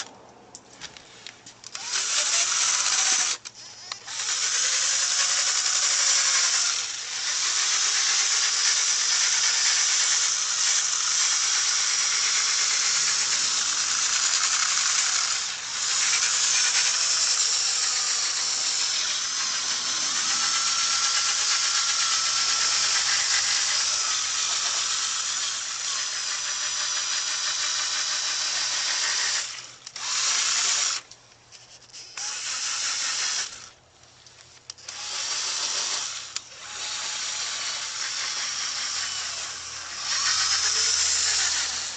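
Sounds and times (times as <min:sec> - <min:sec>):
drill sanding plastic: 0:01.8 - 0:31.0, 0:34.9 - 0:41.9.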